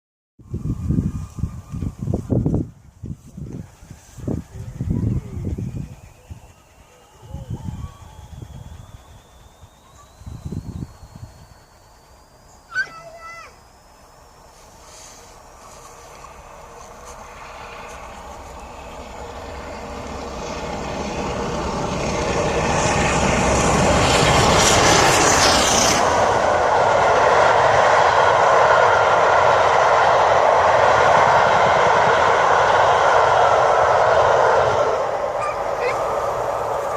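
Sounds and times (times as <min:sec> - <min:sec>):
train rumbling past: 0:00.4 - 0:36.9
steam locomotive hissing rush: 0:00.5 - 0:36.9.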